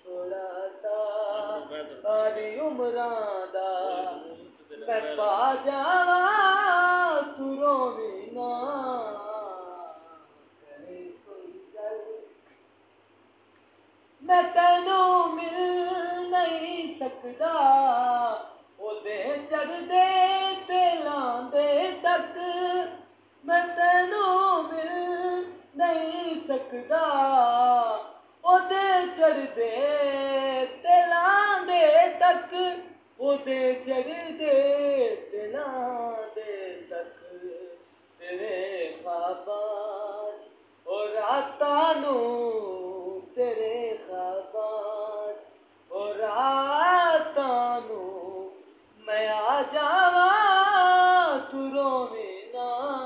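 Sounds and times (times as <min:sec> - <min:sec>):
man singing unaccompanied: 0:00.0 - 0:12.6, 0:14.2 - 0:53.0.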